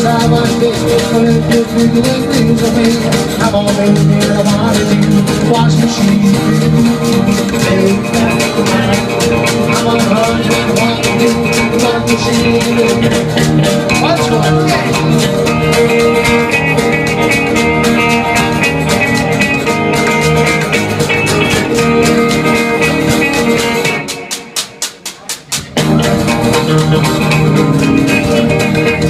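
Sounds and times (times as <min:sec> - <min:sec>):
blues guitar: 0:00.0 - 0:29.0
washboard beat: 0:00.0 - 0:29.0.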